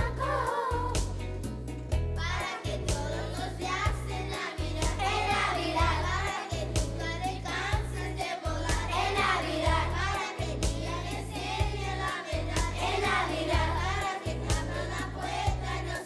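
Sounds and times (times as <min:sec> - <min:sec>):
children's choir singing: 0:00.0 - 0:01.1, 0:02.3 - 0:16.0
deep bass line: 0:00.0 - 0:16.0.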